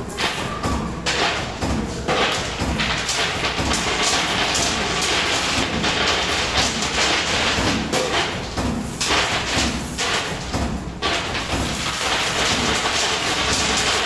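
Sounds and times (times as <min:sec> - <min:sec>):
coin pusher machine rumbling: 0:00.0 - 0:14.0.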